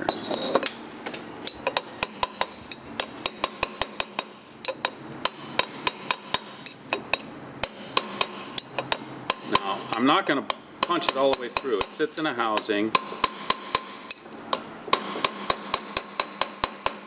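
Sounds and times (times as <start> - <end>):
hammer tapping on steel drift: 1.4 - 17.0.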